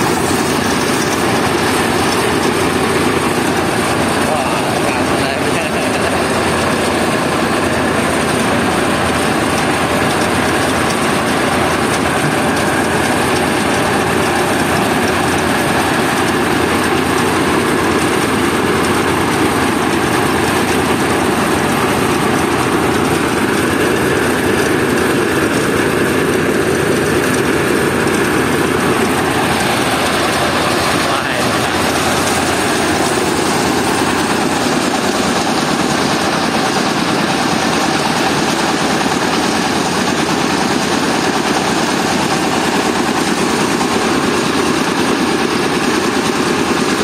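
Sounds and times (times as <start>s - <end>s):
diesel engine running: 0.0s - 47.0s
mill machinery din: 0.0s - 47.0s.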